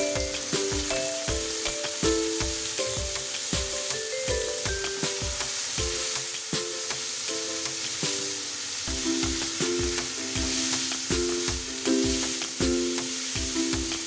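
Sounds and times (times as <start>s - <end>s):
background music with steady beat: 0.0s - 14.0s
vegetables sizzling in a wok: 0.0s - 14.0s
wooden spatula tossing in wok: 0.0s - 14.0s.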